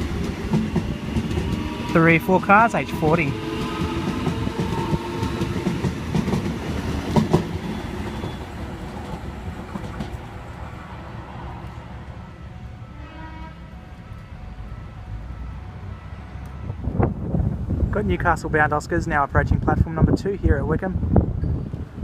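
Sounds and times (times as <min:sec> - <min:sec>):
electric train pulling out: 0:00.0 - 0:17.9.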